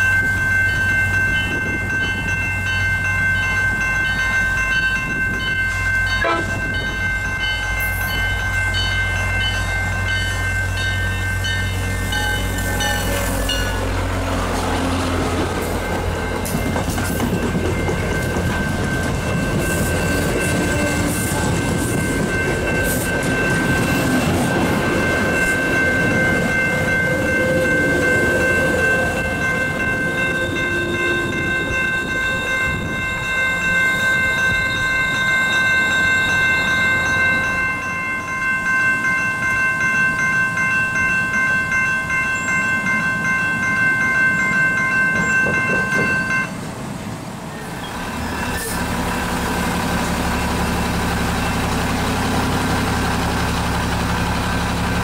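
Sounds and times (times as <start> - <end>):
crossing warning bell ringing: 0.0 - 55.0
train rumbling over crossing: 0.0 - 55.0.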